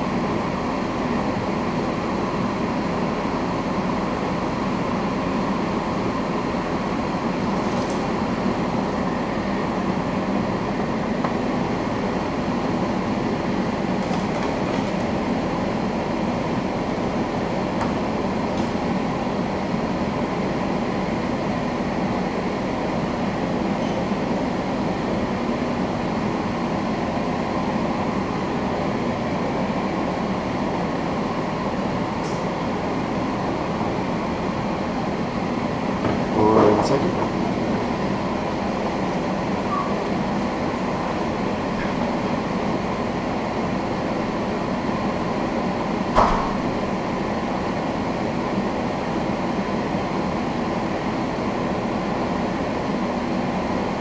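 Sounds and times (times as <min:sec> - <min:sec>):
fume extractor fan running: 0:00.0 - 0:54.0.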